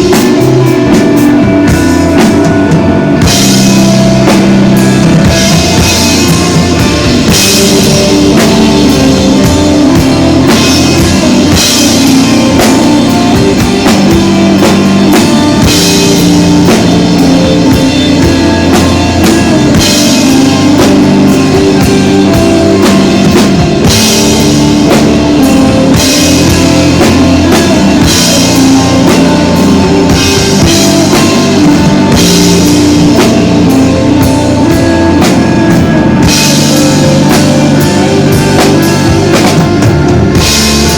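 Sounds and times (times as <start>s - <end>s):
instrumental rock band playing: 0.0s - 40.9s.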